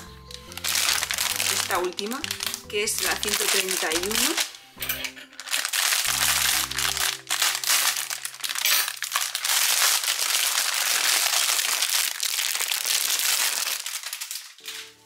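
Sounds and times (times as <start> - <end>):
plastic bag crinkling: 0.0 - 4.7, 5.3 - 15.0.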